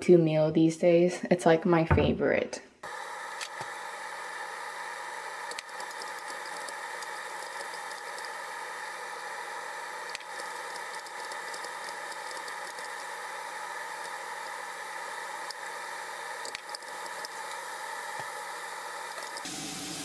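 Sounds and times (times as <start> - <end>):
vegetables sizzling in pan: 2.9 - 20.0.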